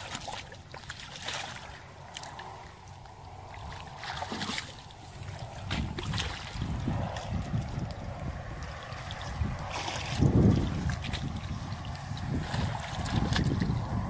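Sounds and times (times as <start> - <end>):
water sloshing: 0.0 - 14.0
water splashes: 0.0 - 14.0.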